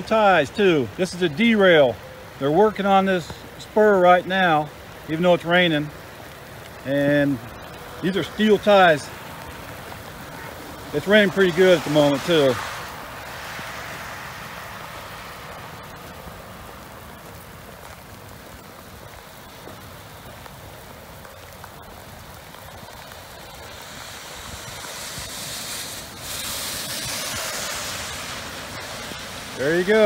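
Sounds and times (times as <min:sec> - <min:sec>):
car tyres on wet road: 0:00.0 - 0:30.0
steady rain falling: 0:00.0 - 0:30.0.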